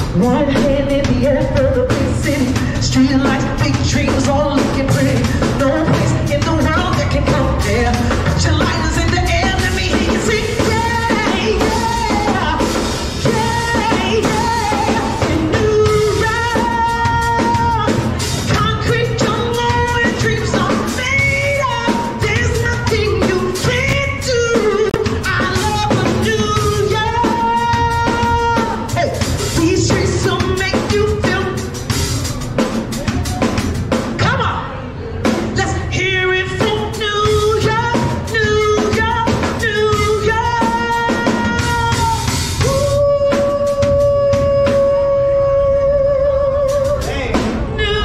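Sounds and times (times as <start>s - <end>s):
woman singing into a microphone: 0.0s - 31.8s, 34.2s - 48.0s
drum kit beat: 0.0s - 48.0s.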